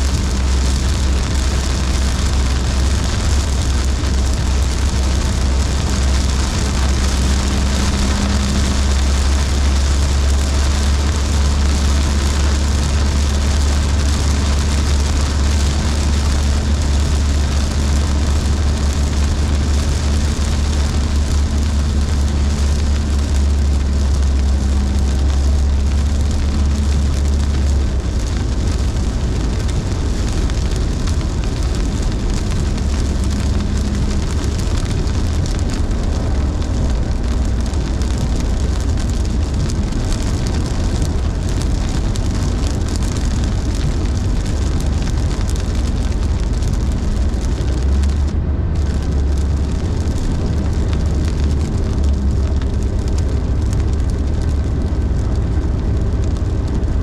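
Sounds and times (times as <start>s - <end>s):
hiss of rain and spray: 0.0s - 57.0s
road and tyre noise: 0.0s - 57.0s.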